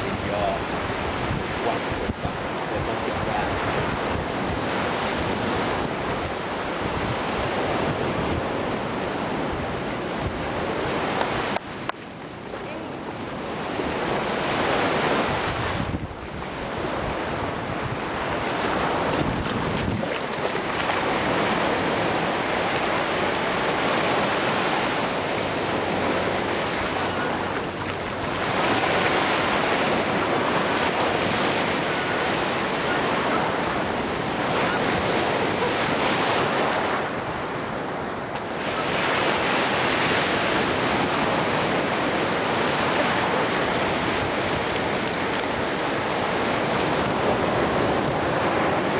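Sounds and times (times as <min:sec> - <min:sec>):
ocean surf breaking: 0:00.0 - 0:48.9
wind buffeting microphone: 0:00.0 - 0:48.9.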